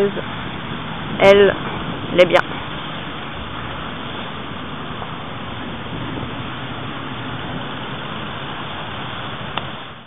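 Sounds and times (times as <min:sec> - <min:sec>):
wind rushing on microphone: 0:00.0 - 0:10.0.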